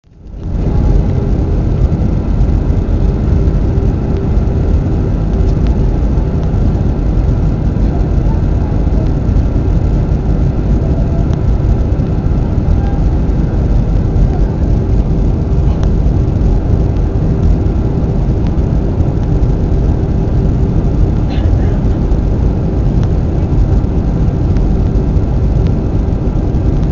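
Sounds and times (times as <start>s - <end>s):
faint steady hum: 0.0s - 26.9s
low rumble of engines and airflow: 0.0s - 26.9s.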